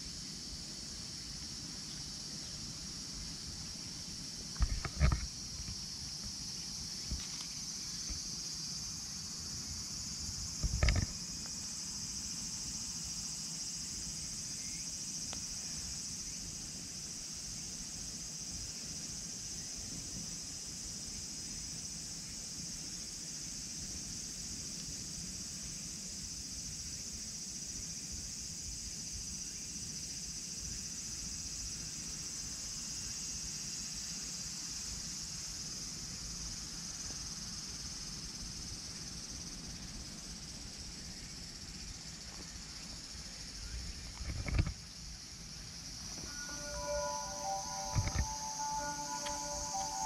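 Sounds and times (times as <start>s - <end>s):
insects chorus: 0.0s - 50.0s.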